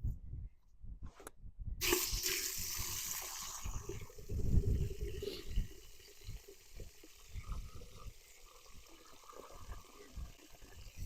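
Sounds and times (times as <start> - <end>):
water pouring and trickling: 1.8 - 11.0.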